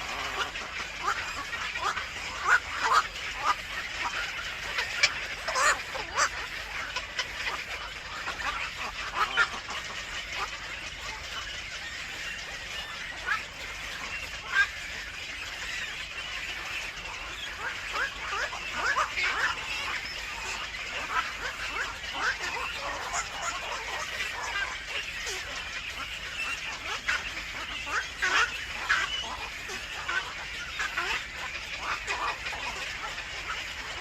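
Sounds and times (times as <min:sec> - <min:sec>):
birds chirping harshly: 0:00.0 - 0:34.0.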